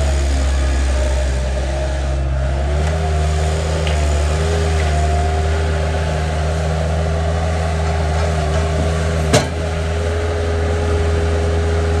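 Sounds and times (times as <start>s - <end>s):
constant whine: 0.0s - 12.0s
diesel engine running: 0.0s - 12.0s.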